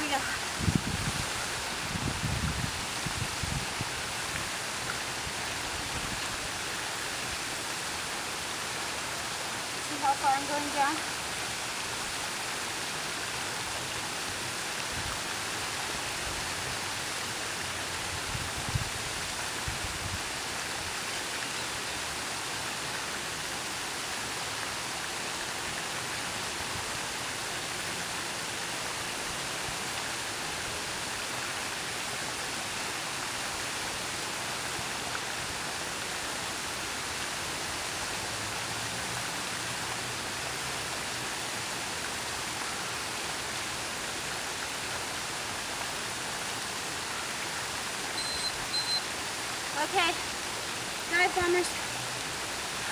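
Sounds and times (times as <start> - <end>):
water cascading into pond: 0.0 - 52.9.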